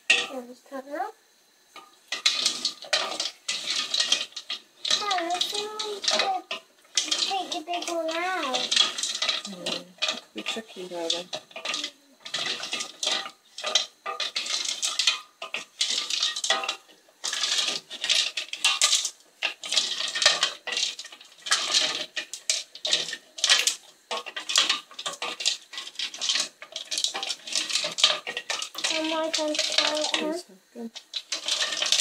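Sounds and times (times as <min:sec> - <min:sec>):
stones scraping in metal pan: 0:00.0 - 0:00.5, 0:01.7 - 0:32.0.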